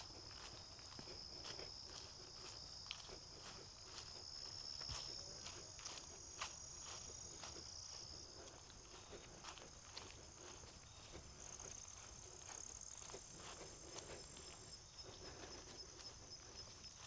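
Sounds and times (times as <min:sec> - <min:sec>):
footsteps on a trail: 0:00.0 - 0:17.0
high-pitched insect chorus: 0:00.0 - 0:17.0.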